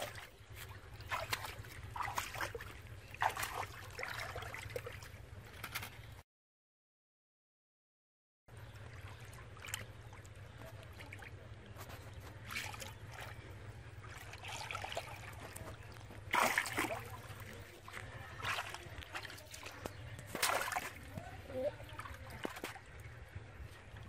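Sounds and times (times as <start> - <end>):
muddy water splashing: 0.0 - 6.2, 8.5 - 24.0.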